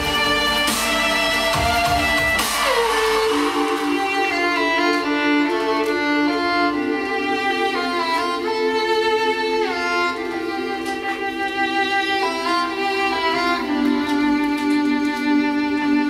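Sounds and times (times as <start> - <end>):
held low string notes: 0.0 - 16.0
slow violin melody: 0.0 - 16.0.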